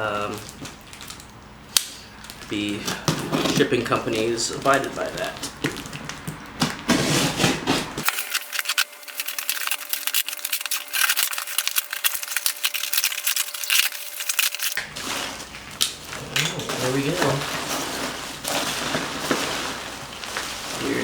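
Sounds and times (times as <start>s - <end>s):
packing material crackling: 0.1s - 7.4s, 8.0s - 21.0s.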